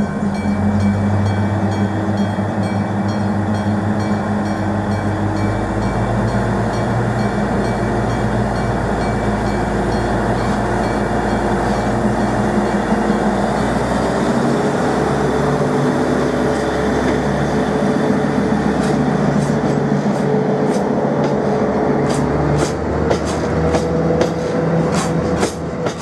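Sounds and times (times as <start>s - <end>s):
locomotive engine drone: 0.0s - 26.0s.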